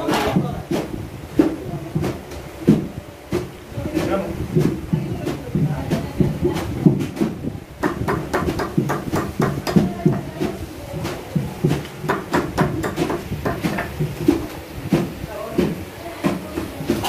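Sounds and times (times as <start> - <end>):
dull thuds: 0.0 - 17.0.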